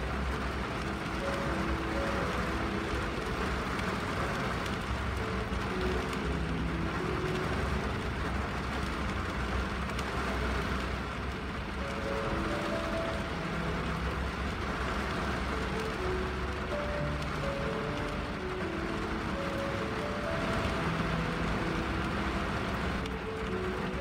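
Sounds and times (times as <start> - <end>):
slow melody of held notes: 0.0 - 9.2, 11.6 - 24.0
rain on windshield: 0.0 - 24.0.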